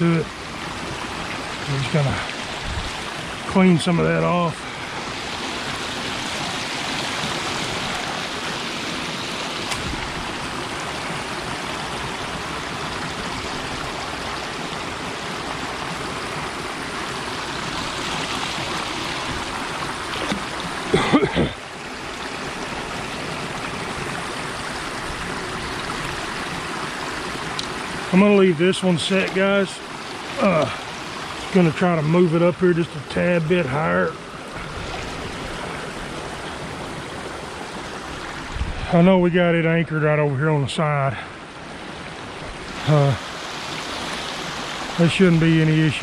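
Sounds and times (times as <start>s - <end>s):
water rushing at a dam: 0.0s - 46.0s.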